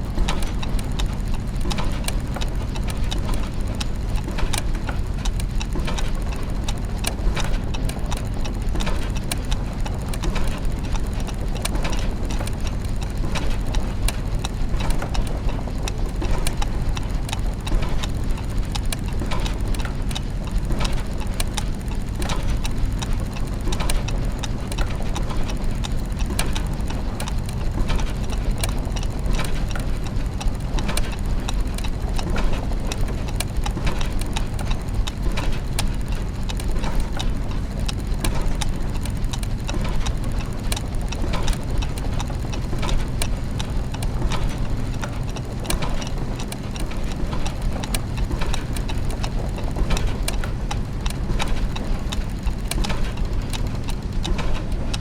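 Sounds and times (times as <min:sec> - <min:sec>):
clockwork gears ticking and ratcheting: 0:00.0 - 0:55.0
low mechanical hum: 0:00.0 - 0:55.0.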